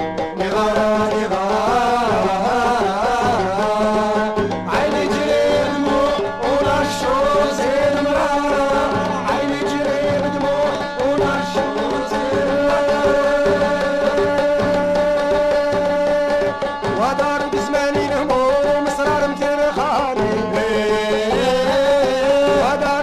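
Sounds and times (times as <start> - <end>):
folk band playing: 0.0 - 23.0
hand drums: 0.0 - 23.0.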